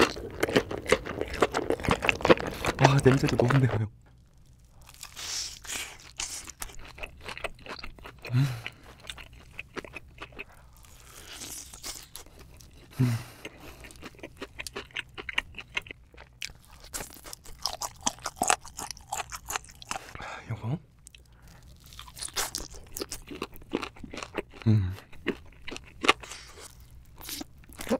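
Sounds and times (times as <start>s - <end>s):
crunching and chewing: 0.0s - 20.2s, 21.0s - 27.9s.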